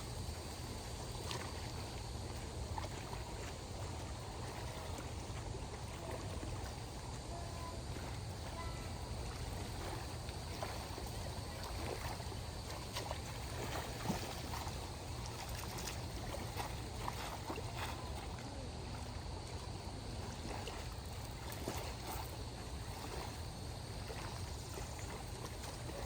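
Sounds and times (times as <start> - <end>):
water lapping around boat: 0.0 - 26.0.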